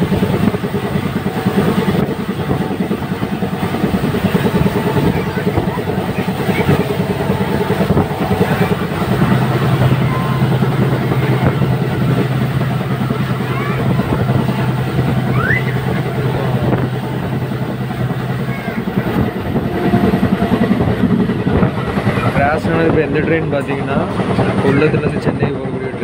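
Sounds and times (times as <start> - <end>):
steady low hum: 0.0 - 23.4
train wheels rushing and rattling: 0.0 - 26.0.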